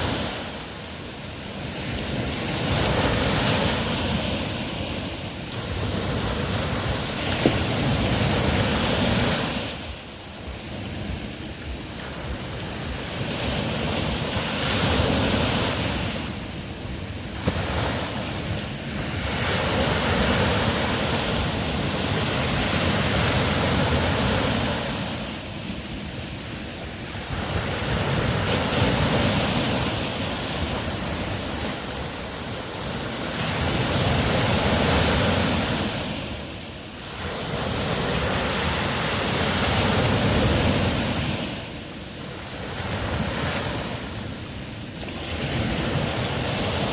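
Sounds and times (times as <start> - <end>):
ocean waves surging: 0.0 - 46.9.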